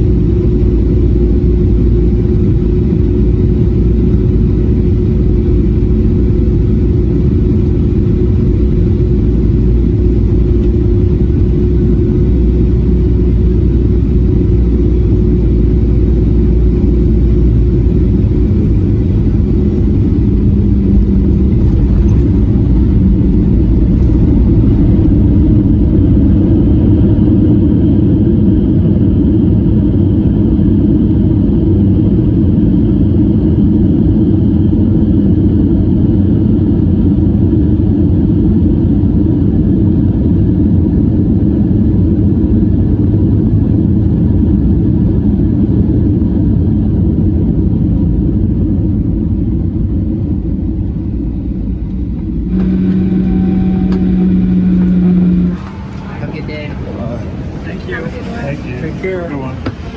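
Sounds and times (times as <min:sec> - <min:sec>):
jet cabin rumble: 0:00.0 - 0:59.9.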